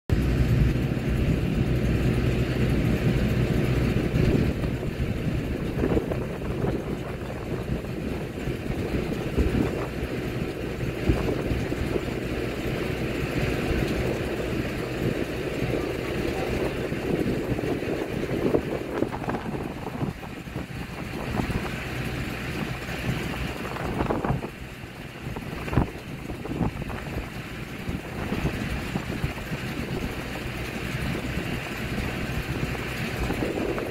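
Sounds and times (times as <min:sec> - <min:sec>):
low mechanical hum: 0:00.1 - 0:33.9
wind buffeting microphone: 0:00.1 - 0:33.9.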